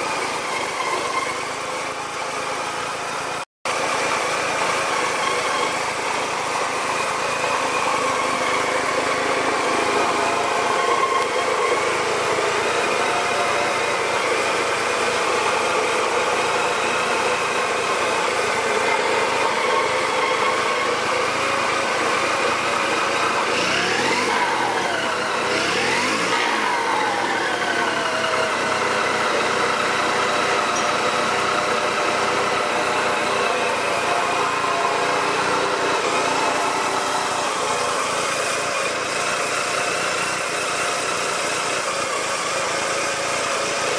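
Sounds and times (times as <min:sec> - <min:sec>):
rotary engine running and revving: 0:00.0 - 0:43.9.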